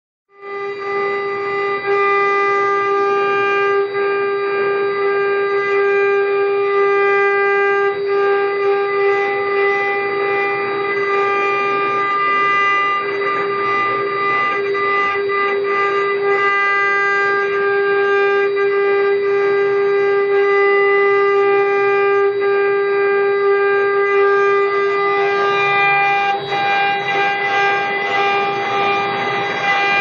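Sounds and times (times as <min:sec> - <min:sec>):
spindle motors whining: 0:01.3 - 0:30.0.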